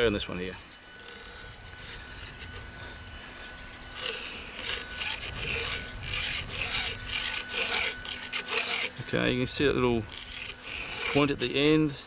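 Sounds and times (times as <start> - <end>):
file stroking chainsaw chain: 0.0 - 9.2, 10.0 - 12.0.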